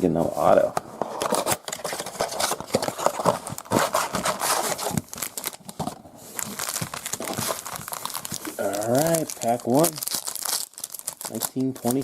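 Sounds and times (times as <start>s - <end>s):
packaging crinkling and tearing: 1.2s - 12.0s.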